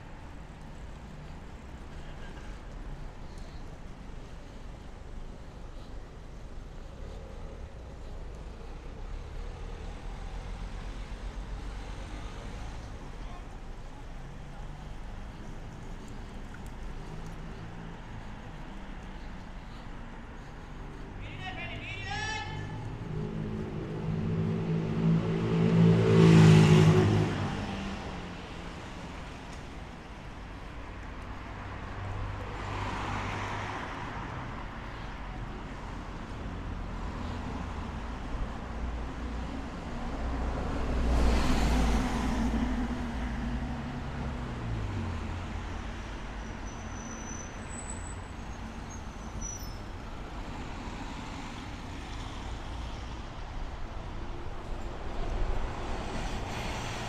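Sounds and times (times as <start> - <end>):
background traffic noise: 0.0 - 57.0
vehicles passing close by: 0.0 - 57.0.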